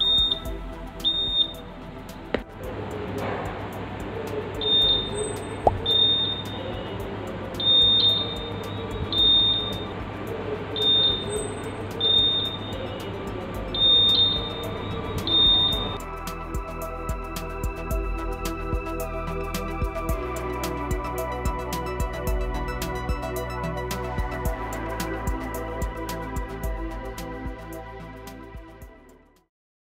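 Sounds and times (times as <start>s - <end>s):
music: 0.0s - 29.5s.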